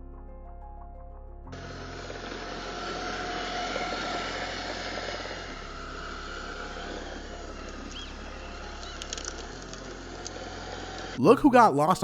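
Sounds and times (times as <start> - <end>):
engine drone: 1.5 - 11.2.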